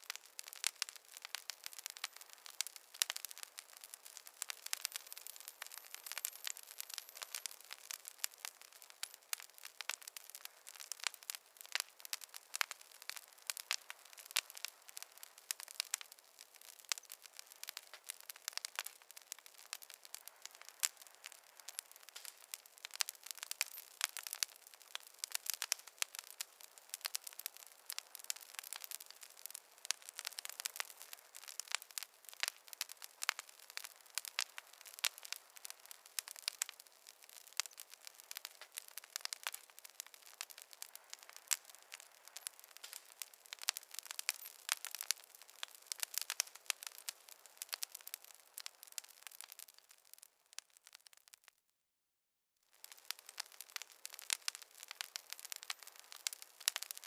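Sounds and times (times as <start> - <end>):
wood fire crackling: 0.0 - 51.6, 52.7 - 57.0.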